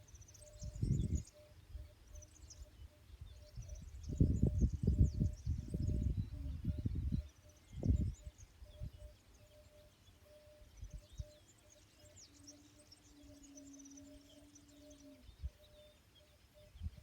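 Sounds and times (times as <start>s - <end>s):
small birds twittering faintly: 0.0s - 17.0s.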